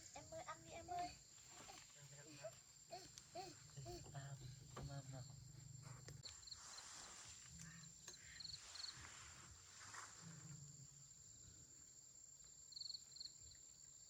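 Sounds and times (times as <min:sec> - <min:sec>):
insect chirping trills: 0:00.0 - 0:14.0.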